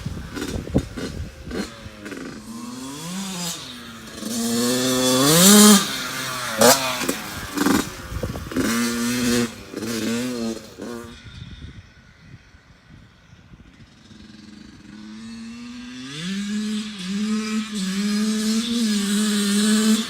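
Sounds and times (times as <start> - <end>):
dirt bike engine revving: 0.0 - 12.6, 13.2 - 20.0.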